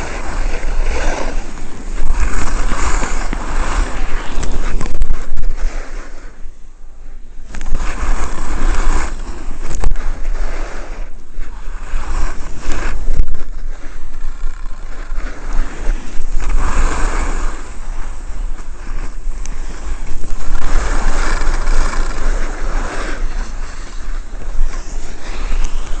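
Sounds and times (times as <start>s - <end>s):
skis scraping over snow: 0.0s - 6.6s, 7.3s - 26.0s
wind buffeting microphone: 0.0s - 26.0s.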